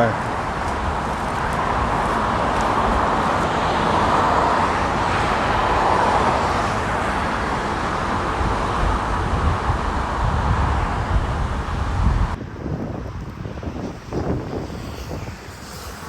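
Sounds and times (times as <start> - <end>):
road traffic noise: 0.0 - 16.0
wind buffeting microphone: 0.0 - 16.0.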